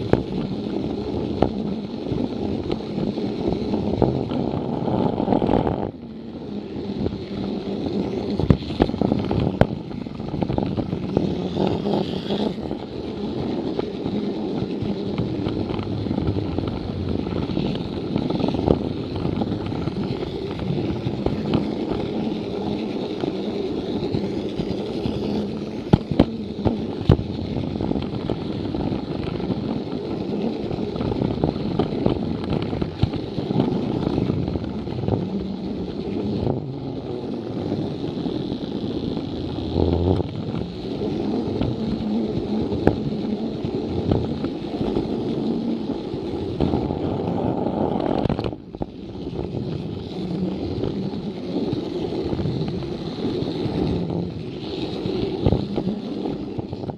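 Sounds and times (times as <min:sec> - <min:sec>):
toy train motor whirring: 0:00.0 - 0:56.9.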